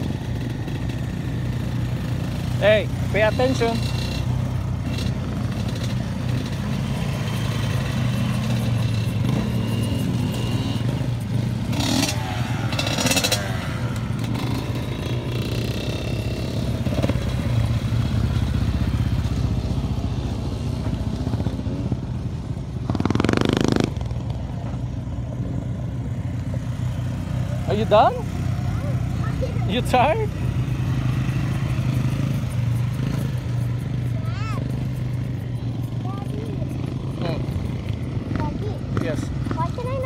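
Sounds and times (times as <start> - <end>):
quad engines running: 0.0 - 40.0.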